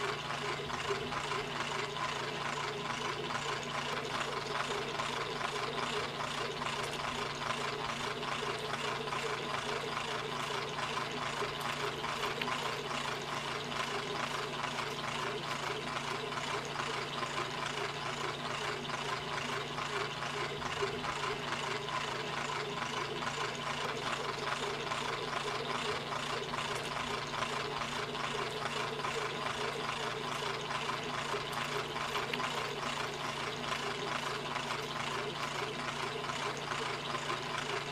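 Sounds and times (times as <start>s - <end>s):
machine running with fast knocking: 0.0s - 37.9s.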